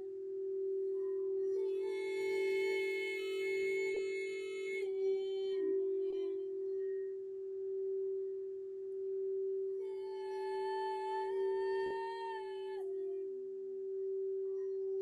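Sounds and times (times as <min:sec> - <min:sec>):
singing bowl tone: 0:00.0 - 0:15.0.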